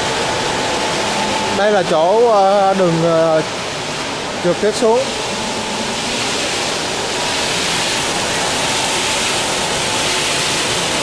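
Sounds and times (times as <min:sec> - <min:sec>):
air-conditioning and blowers rushing: 0:00.0 - 0:11.0.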